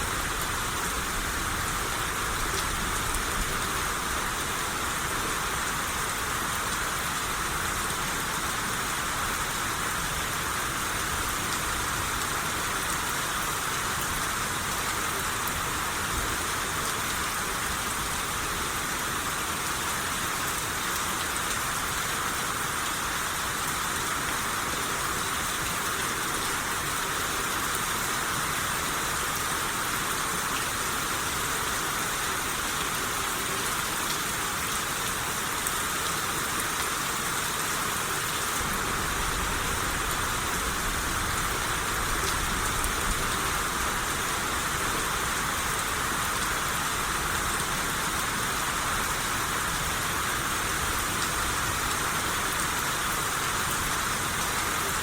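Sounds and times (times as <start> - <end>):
rain hissing on a surface: 0.0 - 55.0.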